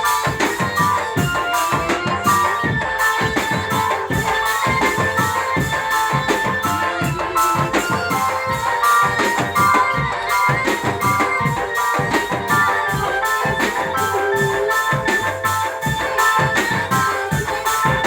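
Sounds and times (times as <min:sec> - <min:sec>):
fast steady drum beat: 0:00.0 - 0:18.0
ringing tuned metal percussion: 0:00.0 - 0:18.0.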